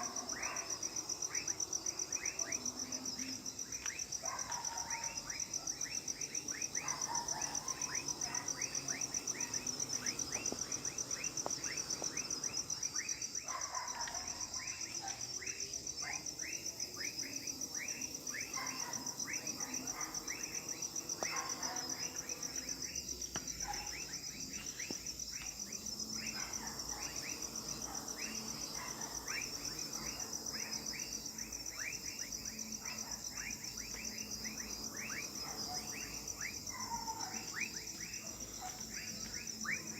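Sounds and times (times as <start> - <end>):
pulsing insect trill: 0.0 - 39.9.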